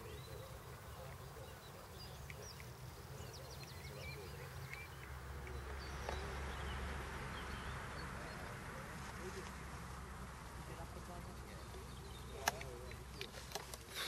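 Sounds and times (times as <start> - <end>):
low steady rumble: 0.0 - 13.2
songbirds chirping: 0.0 - 14.0.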